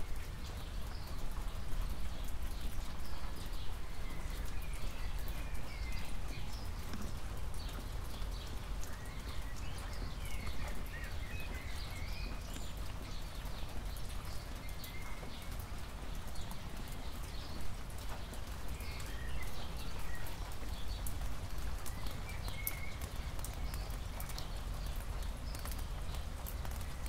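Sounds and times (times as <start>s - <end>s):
raindrops tapping: 0.0s - 27.0s
steady low rumble of rain: 0.0s - 27.0s.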